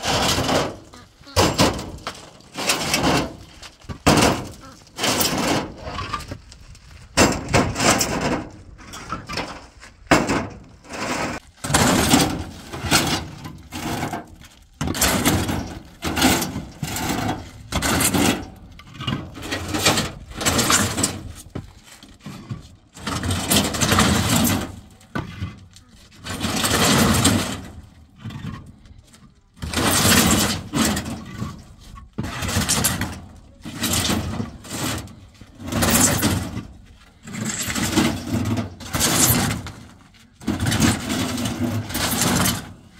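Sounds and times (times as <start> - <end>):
concrete blocks scraping and clunking: 0.0 - 42.9.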